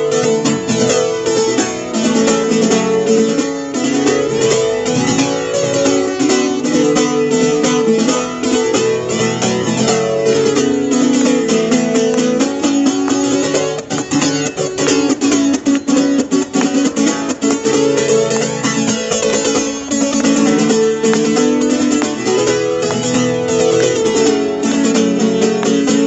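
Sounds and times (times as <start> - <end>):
band playing guitar instrumental: 0.0 - 26.0.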